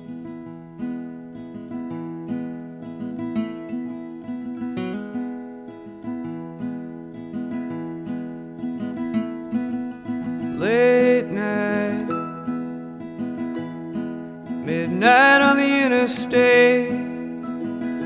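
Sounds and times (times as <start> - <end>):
acoustic guitar picking: 0.0 - 18.0.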